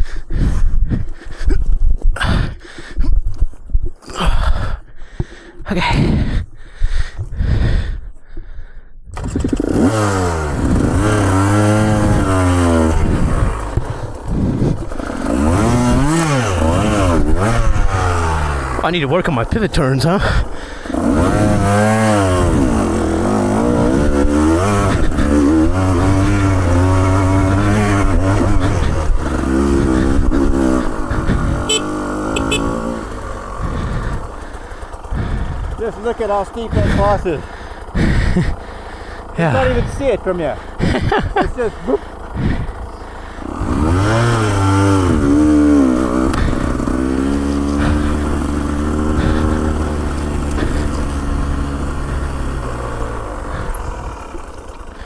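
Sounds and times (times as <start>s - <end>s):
off-road motorcycle engine revving: 9.1s - 55.0s.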